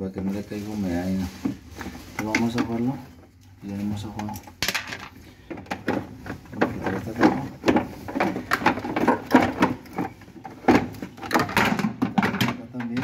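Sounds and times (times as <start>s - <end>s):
plastic parts knocking and scraping: 1.1s - 13.0s.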